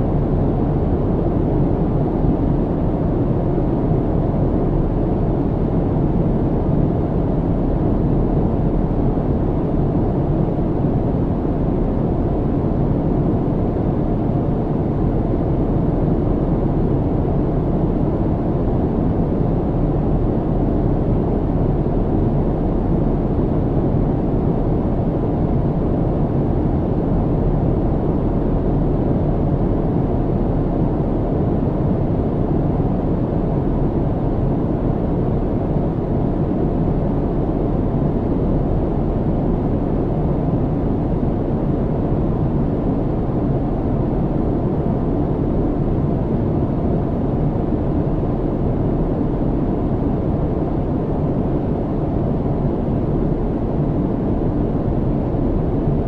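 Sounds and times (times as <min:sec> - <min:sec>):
airliner cabin rumble and air rush: 0:00.0 - 0:56.0.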